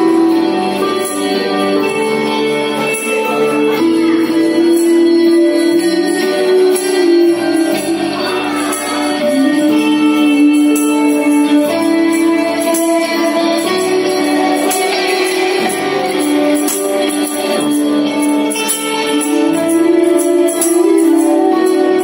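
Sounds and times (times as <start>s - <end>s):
bass guitar: 0.0s - 22.0s
keyboard chords: 0.0s - 22.0s.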